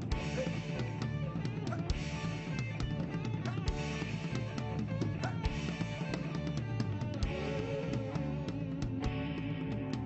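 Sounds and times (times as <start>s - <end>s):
guitar: 0.0s - 10.0s.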